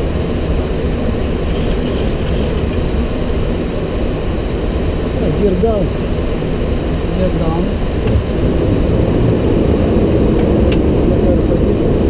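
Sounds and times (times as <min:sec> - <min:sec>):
airplane cockpit airflow and engines: 0:00.0 - 0:12.0.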